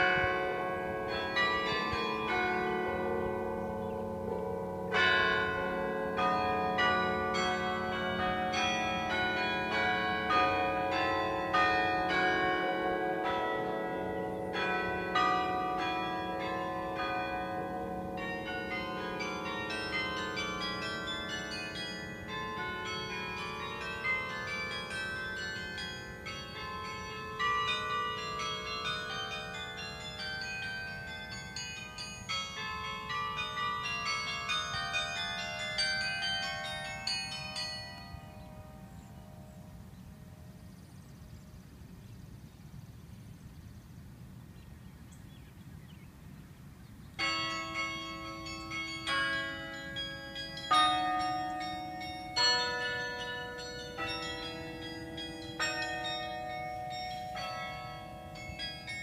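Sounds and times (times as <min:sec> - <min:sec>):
carillon bells ringing: 0:00.0 - 0:39.6, 0:47.2 - 0:59.0.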